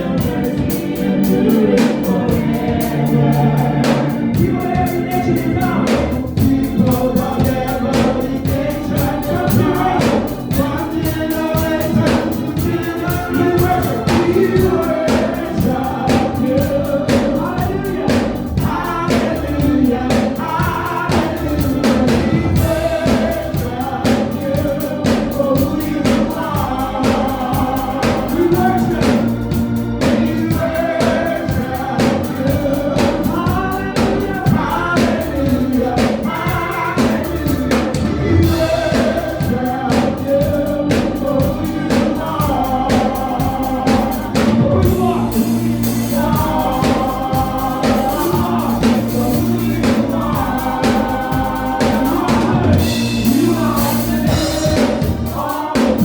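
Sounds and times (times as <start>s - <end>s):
bass and keyboard notes: 0.0s - 56.0s
drums beat: 0.0s - 56.0s
gospel choir singing: 0.0s - 56.0s.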